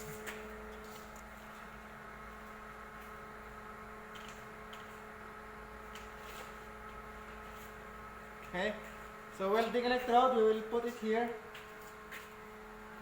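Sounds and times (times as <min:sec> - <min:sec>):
welding machine electrical hum: 0:00.0 - 0:13.0.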